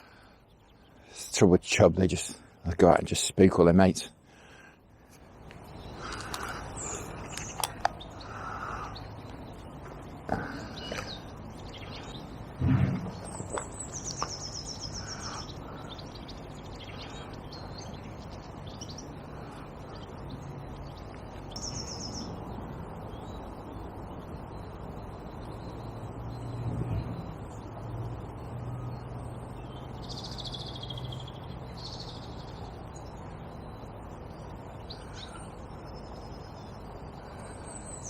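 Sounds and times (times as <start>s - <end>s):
small birds chirping: 0.0s - 38.0s
steady low background noise: 0.0s - 38.0s.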